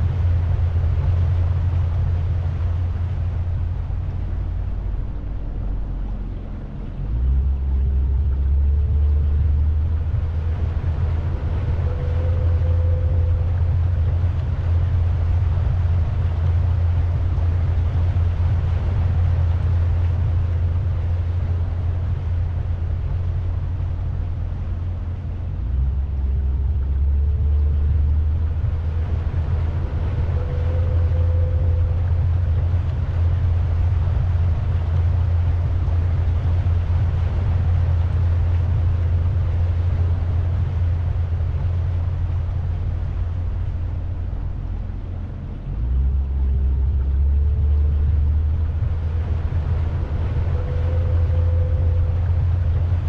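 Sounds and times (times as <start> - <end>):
boat motor rumble: 0.0 - 53.0
water noise: 0.0 - 53.0
wind: 0.0 - 53.0.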